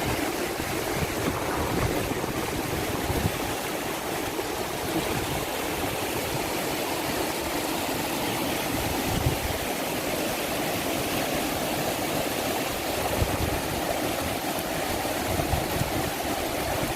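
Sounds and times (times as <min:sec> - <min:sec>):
water rushing over rocks: 0:00.0 - 0:16.9.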